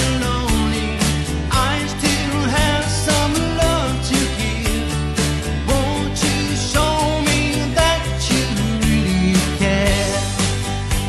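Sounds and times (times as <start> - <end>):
man singing into a microphone: 0.0 - 10.5
acoustic guitar strumming: 0.0 - 11.0.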